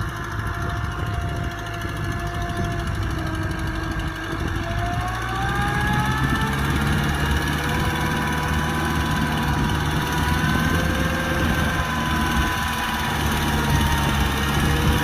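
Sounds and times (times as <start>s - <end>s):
thin whine: 0.0s - 15.0s
tractor engine running: 0.0s - 15.0s.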